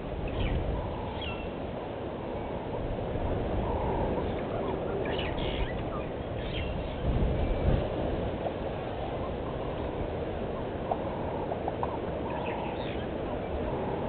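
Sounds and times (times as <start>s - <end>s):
low rumbling hiss: 0.0s - 14.0s.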